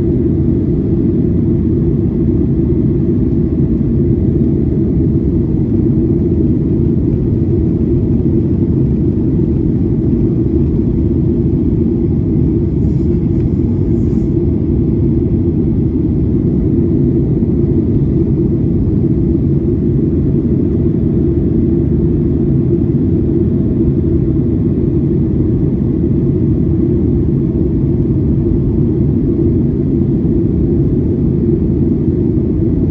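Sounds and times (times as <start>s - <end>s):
jet engines low rumble: 0.0s - 32.9s.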